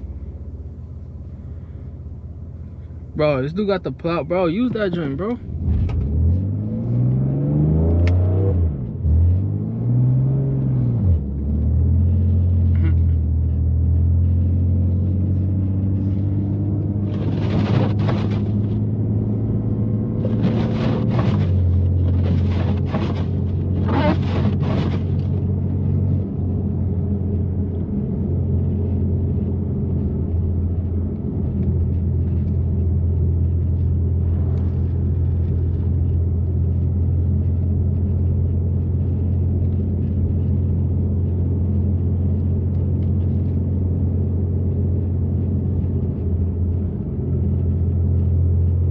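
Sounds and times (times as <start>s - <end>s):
car engine droning at low revs: 0.0s - 48.9s.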